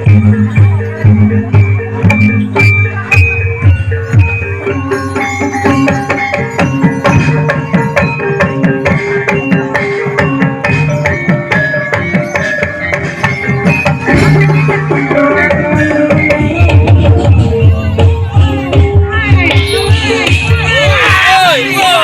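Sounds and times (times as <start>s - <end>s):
gamelan music: 0.0s - 22.0s.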